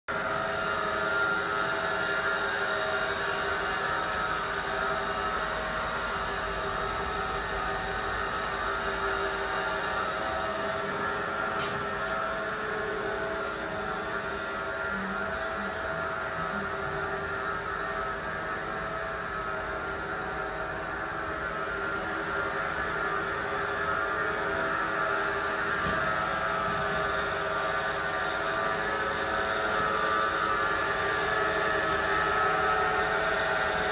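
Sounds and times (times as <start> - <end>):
cutting machine whirring: 0.1 - 33.9.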